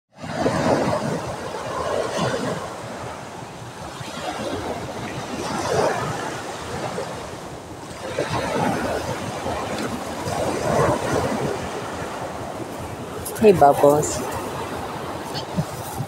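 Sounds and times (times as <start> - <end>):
small waves breaking on beach: 0.1 - 16.0.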